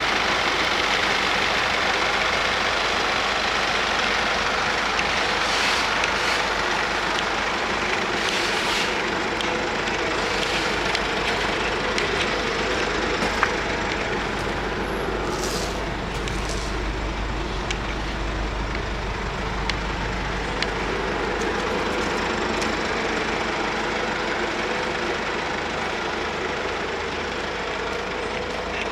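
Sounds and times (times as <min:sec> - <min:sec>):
refrigerated van running: 0:00.0 - 0:28.9.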